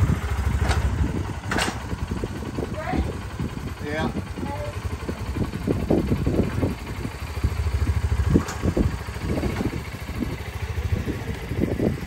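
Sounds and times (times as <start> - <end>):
utility vehicle engine rumbling: 0.0 - 12.0.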